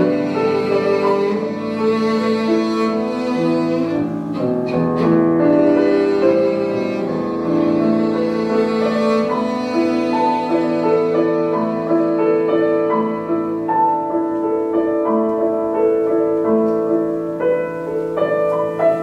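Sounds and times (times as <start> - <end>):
bowed cello notes: 0.0 - 19.0
piano accompaniment: 0.0 - 19.0.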